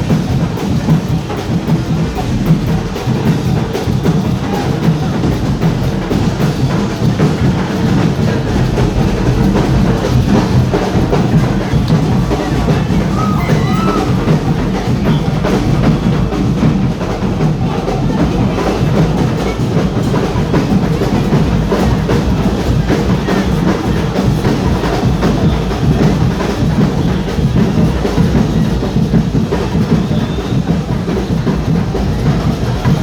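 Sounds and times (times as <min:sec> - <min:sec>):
bass drum: 0:00.0 - 0:33.0
percussion band drumming: 0:00.0 - 0:33.0.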